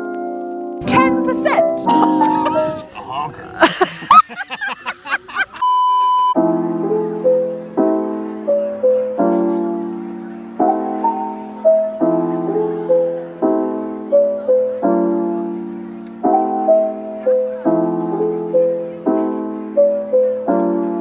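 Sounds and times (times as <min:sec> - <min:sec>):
piano music: 0:00.0 - 0:03.1, 0:05.6 - 0:21.0.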